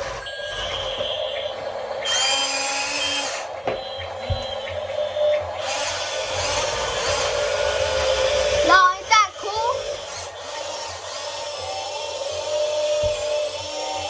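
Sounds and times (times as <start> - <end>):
toy electric motor whirring: 0.0 - 14.0.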